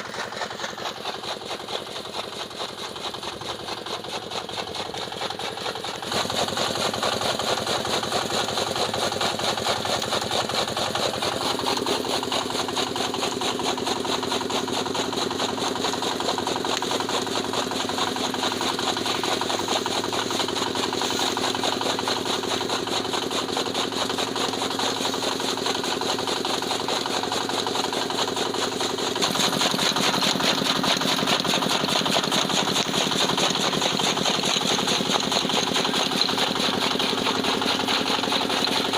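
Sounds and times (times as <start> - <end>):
diesel engine running: 4.4 - 38.9.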